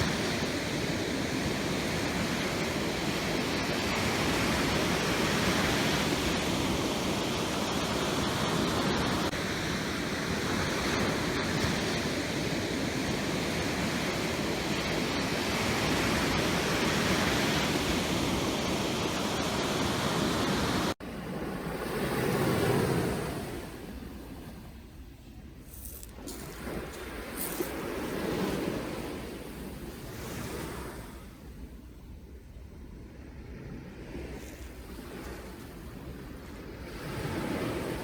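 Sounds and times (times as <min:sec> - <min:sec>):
ocean waves washing in: 0:00.0 - 0:38.0.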